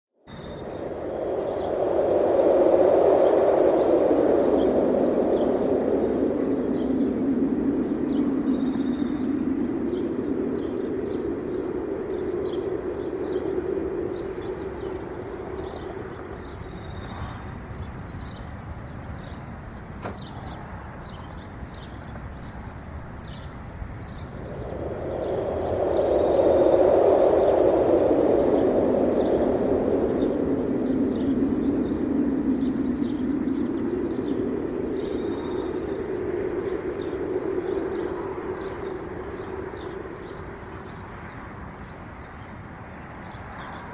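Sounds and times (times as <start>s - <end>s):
wind blowing in gusts: 0.2s - 43.9s
small birds chirping: 0.3s - 43.9s.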